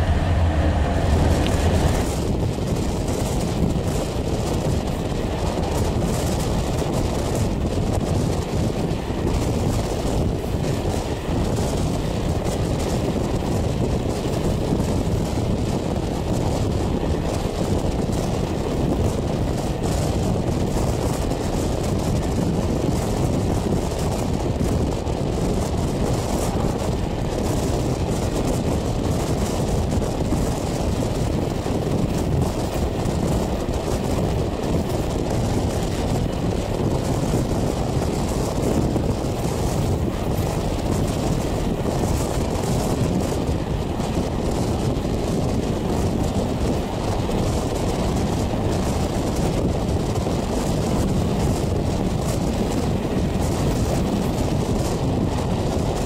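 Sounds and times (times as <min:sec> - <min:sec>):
moving passenger train: 0:00.0 - 0:56.0
rush of wind: 0:00.0 - 0:56.0
wind buffeting microphone: 0:00.0 - 0:56.0.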